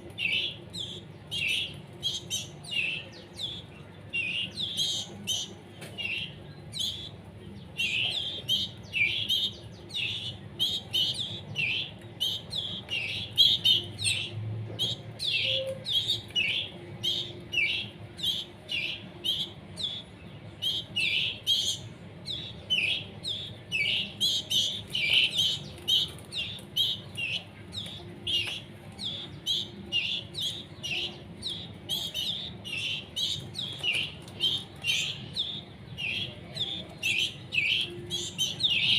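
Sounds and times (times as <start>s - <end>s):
chicks chirping high-pitched: 0.0s - 38.9s.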